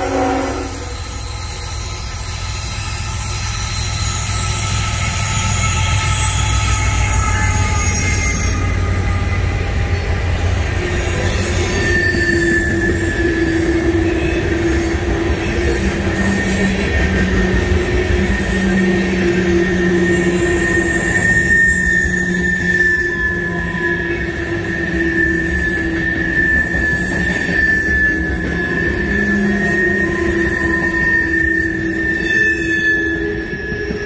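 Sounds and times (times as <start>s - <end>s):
train rail noise: 0.0s - 34.0s
wheel squeal: 0.0s - 34.0s.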